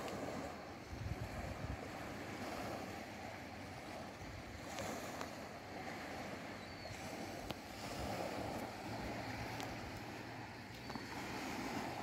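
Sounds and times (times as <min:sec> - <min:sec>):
waves washing onto sand: 0:00.0 - 0:12.0
wind rumble on microphone: 0:00.0 - 0:12.0.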